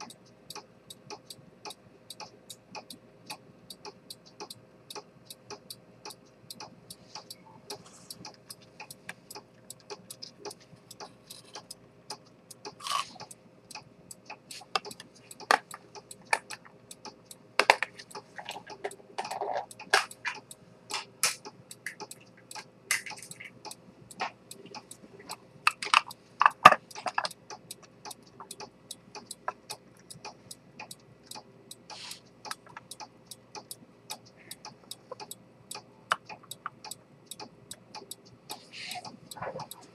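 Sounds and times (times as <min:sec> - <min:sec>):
pocket watch ticking: 0:00.0 - 0:39.9.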